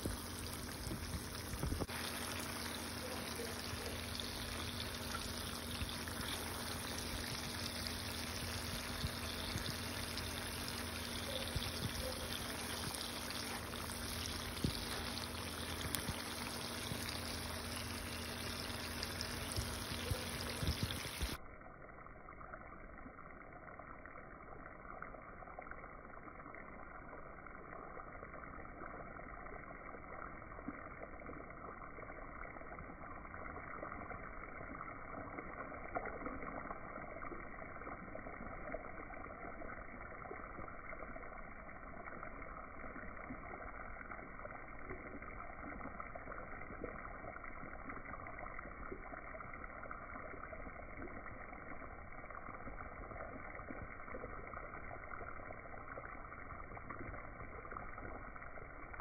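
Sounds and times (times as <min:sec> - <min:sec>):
thick sauce bubbling in a pan: 0:00.0 - 0:59.0.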